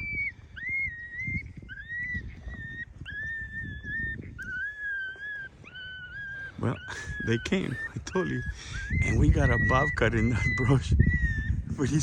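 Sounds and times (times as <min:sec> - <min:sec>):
high whining distress call: 0:00.0 - 0:11.7.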